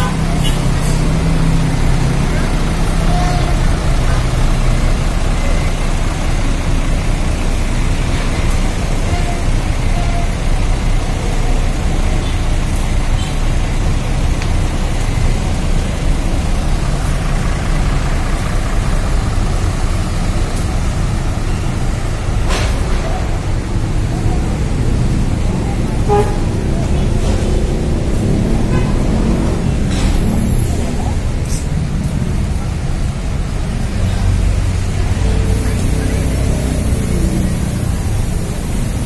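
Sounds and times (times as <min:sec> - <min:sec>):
bus engines idling: 0:00.0 - 0:39.0
traffic noise: 0:00.0 - 0:39.0.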